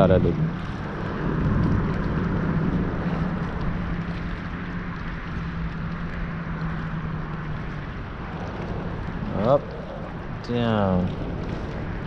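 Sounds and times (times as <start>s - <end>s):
distant motor droning: 0.0s - 12.0s
water noise: 0.0s - 12.0s
wind: 0.0s - 12.0s.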